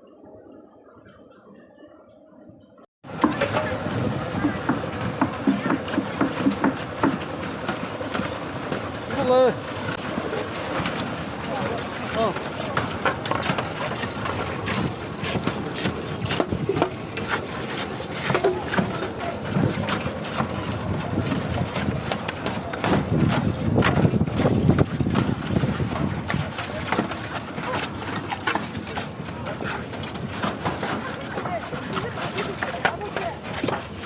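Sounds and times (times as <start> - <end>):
people talking: 0.0 - 7.2, 9.0 - 15.4, 18.2 - 34.0
knocking and clattering of building work: 3.0 - 34.0.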